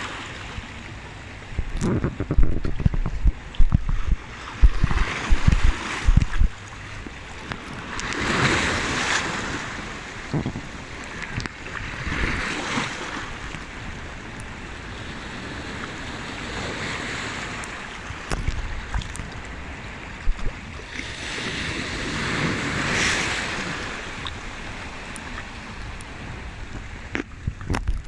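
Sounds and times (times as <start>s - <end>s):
waves washing between rocks: 1.6s - 7.0s, 7.6s - 13.8s, 14.9s - 28.0s.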